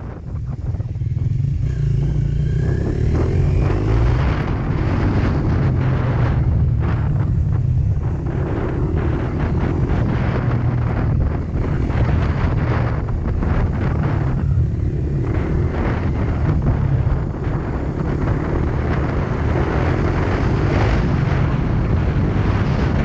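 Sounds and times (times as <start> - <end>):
wind buffeting microphone: 0.0 - 23.0
dirt bike engine revving: 1.1 - 23.0.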